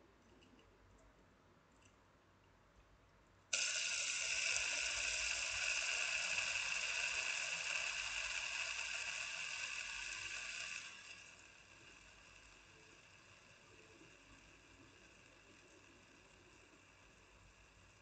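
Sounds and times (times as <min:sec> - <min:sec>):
fidget spinner whirring: 0:03.5 - 0:18.0.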